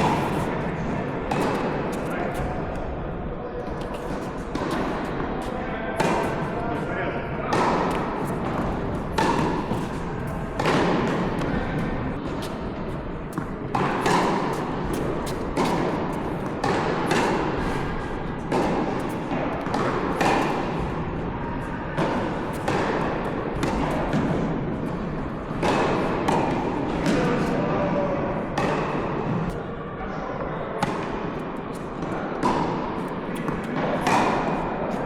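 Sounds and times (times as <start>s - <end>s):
tennis balls struck by racquets: 0.0s - 27.6s, 28.4s - 29.6s, 30.8s - 35.0s
steady background hum: 0.0s - 30.3s.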